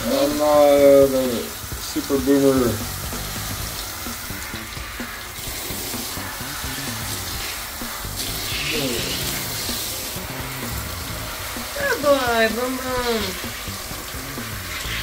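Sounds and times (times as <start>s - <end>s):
hand sprayer water splashing: 0.0s - 15.0s.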